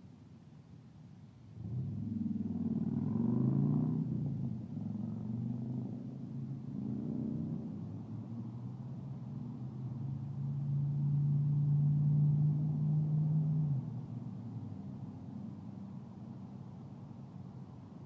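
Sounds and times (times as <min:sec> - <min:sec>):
passing road traffic: 0:01.6 - 0:18.0.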